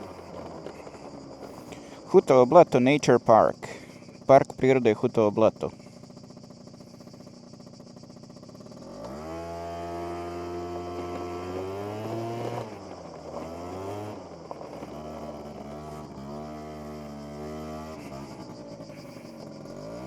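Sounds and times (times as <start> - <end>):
scooter engine revving: 0.0 - 20.0.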